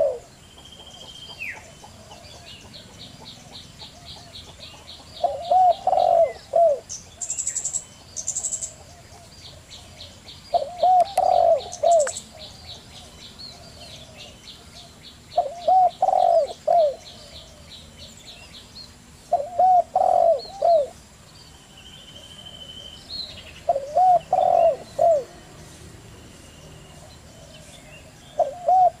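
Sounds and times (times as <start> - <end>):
dove cooing: 0.0 - 18.1, 19.3 - 21.0, 23.2 - 25.6, 26.6 - 29.0
small birds chirping: 0.0 - 29.0.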